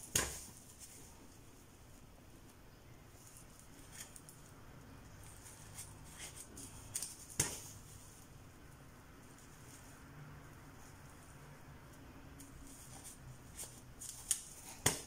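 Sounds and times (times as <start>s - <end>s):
needle and thread rustling: 0.0s - 15.0s.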